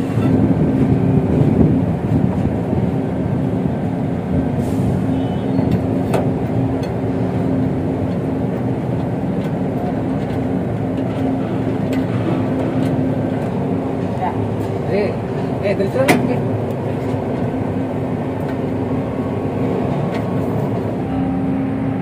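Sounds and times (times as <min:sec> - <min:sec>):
engine low drone: 0:00.0 - 0:22.0.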